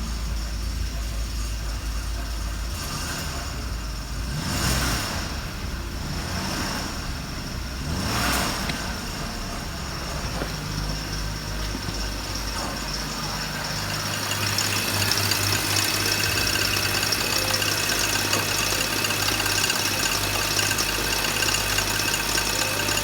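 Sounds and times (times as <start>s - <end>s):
petrol engine idling and revving: 0.0s - 23.0s.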